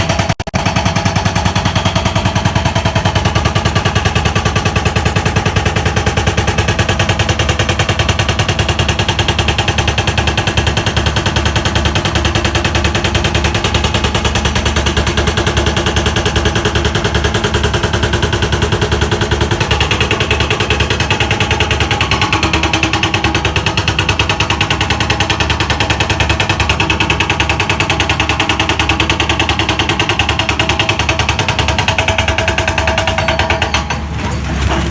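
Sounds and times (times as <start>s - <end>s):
jackhammer hammering: 0.0s - 34.9s.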